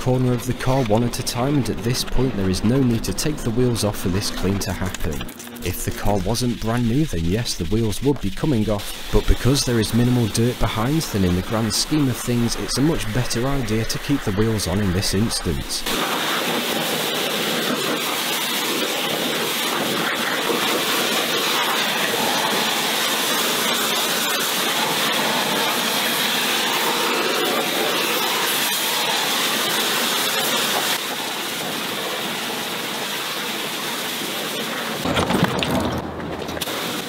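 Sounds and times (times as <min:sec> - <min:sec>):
pressure washer spraying water: 0:00.0 - 0:35.0, 0:36.6 - 0:37.0.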